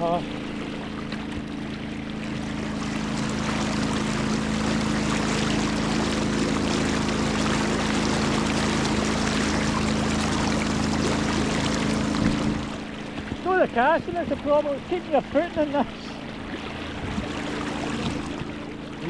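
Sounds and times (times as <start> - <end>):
motor humming: 0.0 - 19.0
river water rushing: 0.0 - 19.0.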